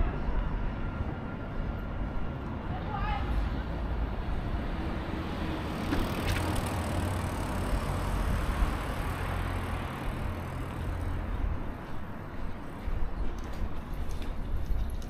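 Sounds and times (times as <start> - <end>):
traffic rumbling by: 0.0 - 14.5.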